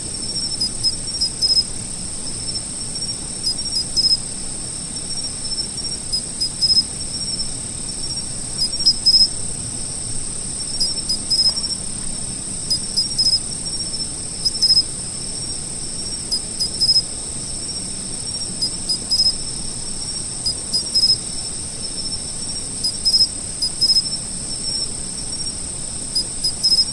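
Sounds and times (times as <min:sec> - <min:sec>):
high-pitched insect trill: 0:00.0 - 0:26.9
sharp insect chirps: 0:00.1 - 0:26.9.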